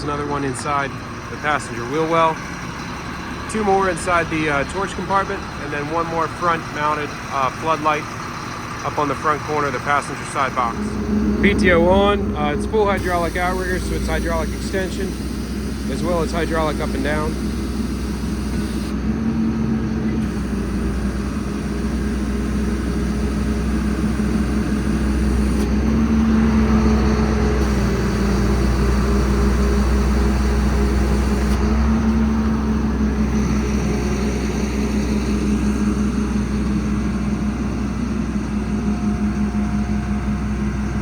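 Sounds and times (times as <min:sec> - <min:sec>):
diesel engine and pump humming: 0:00.0 - 0:41.0.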